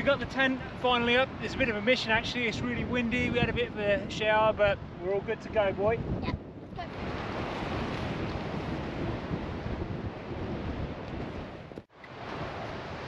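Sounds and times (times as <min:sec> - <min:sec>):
surf washing on beach: 0:00.0 - 0:13.0
wind rushing over microphone: 0:00.0 - 0:13.0.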